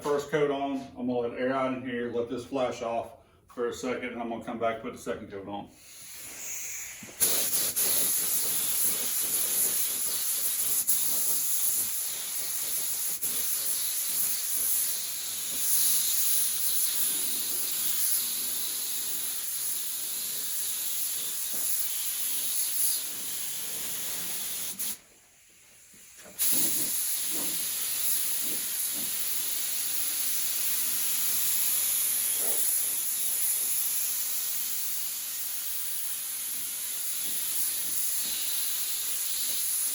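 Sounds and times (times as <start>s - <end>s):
paint spray gun hissing: 5.8s - 39.9s.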